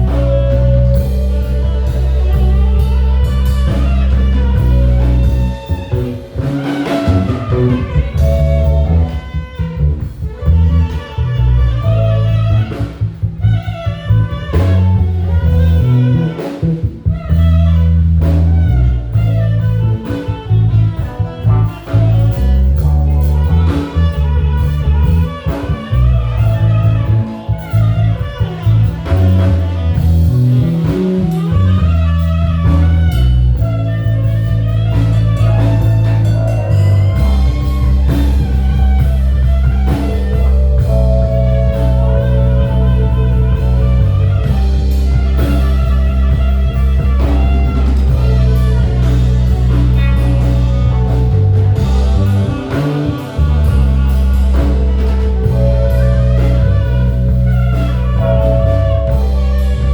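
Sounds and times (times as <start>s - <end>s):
drum kit: 0.0s - 59.9s
electric bass line: 0.0s - 59.9s
keyboard: 0.0s - 59.9s
lead guitar: 0.0s - 59.9s.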